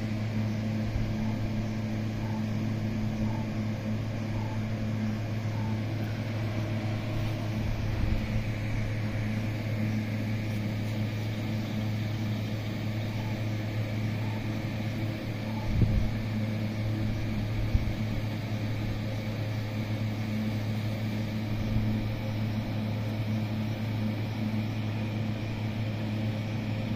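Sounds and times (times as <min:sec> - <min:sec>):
machine hum: 0:00.0 - 0:26.9.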